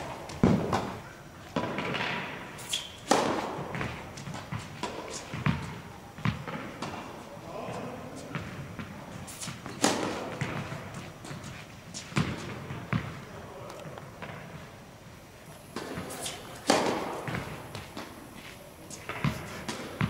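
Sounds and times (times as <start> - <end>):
tennis balls bouncing on court: 0.0 - 14.7, 15.5 - 20.0
tennis balls struck by rackets: 0.0 - 14.7, 15.4 - 20.0.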